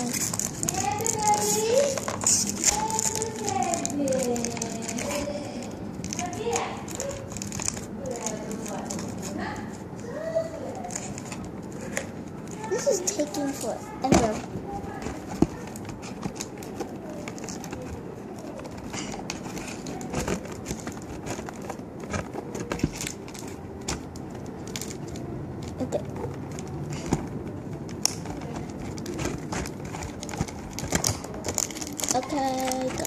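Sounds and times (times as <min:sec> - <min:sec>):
packaging crinkling and tapping: 0:00.0 - 0:09.5, 0:10.1 - 0:33.0.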